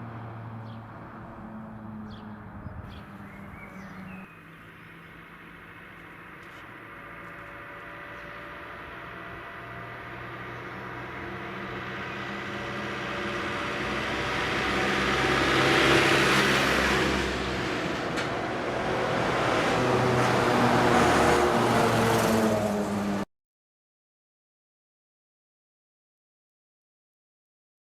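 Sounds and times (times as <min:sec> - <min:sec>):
fire engines driving past: 0:00.0 - 0:23.3.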